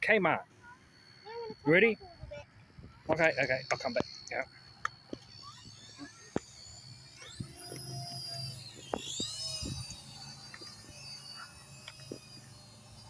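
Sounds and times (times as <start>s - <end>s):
low rotor hum: 0.0s - 13.0s
small electric motors whining: 0.0s - 13.0s.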